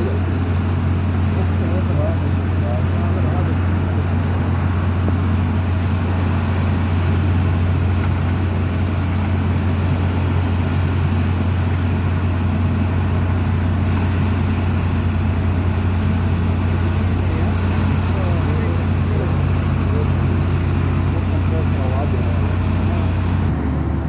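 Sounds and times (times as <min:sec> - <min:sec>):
drilling rig engine humming: 0:00.0 - 0:24.0.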